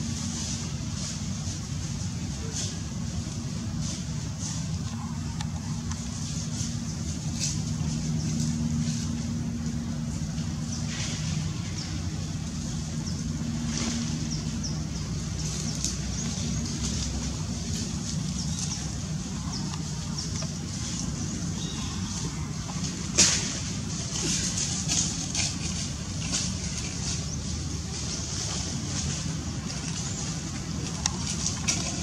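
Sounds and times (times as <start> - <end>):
distant motor droning: 0.0 - 32.0.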